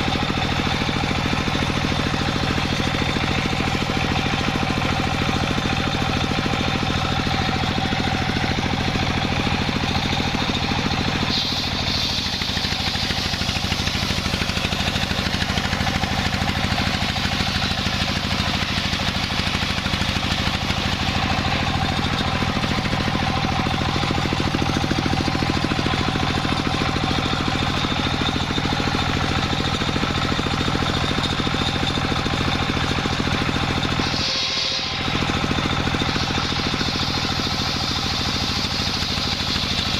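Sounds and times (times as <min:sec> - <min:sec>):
saw noise: 0:00.0 - 0:39.9
sawmill engine running: 0:00.0 - 0:39.9.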